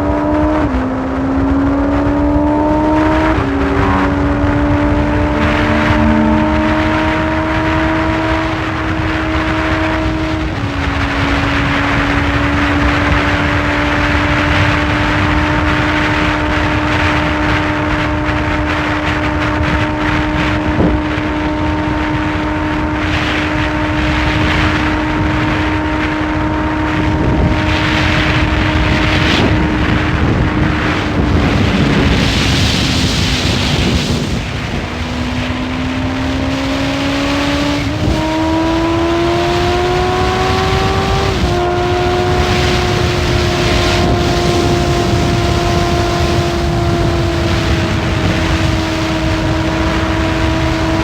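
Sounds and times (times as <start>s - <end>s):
motorcycle engine cruising: 0.0s - 51.0s
wind rushing: 0.0s - 51.0s.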